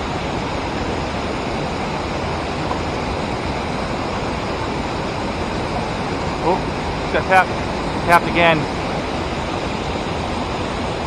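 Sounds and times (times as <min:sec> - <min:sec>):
river water rushing over dam: 0:00.0 - 0:11.0.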